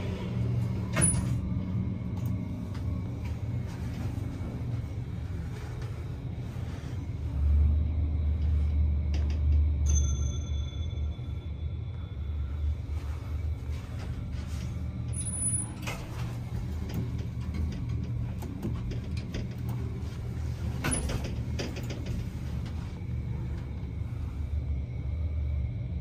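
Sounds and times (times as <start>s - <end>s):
lift car humming: 0.0s - 26.0s.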